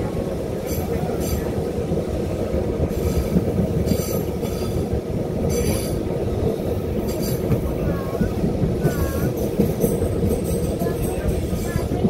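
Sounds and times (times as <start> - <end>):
tram wheels rumbling on rail: 0.0 - 12.0.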